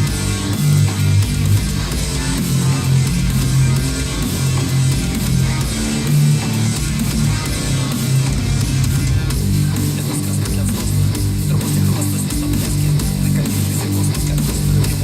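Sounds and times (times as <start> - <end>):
rock music over loudspeakers: 0.0 - 15.0.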